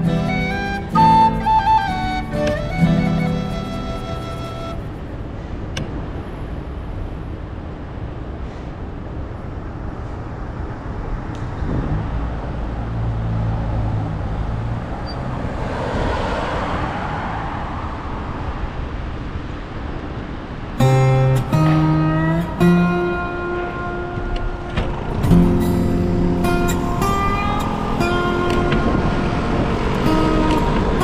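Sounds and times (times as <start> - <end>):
vehicle passing by: 0.0 - 5.7, 10.0 - 31.0
passing cars rumbling: 0.0 - 31.0.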